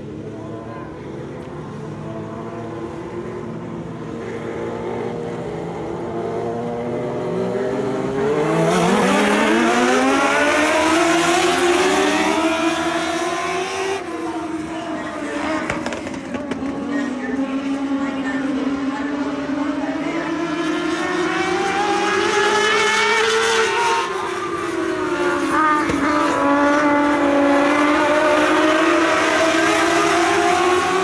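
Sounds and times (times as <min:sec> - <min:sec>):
race car engines revving: 0:00.0 - 0:31.0.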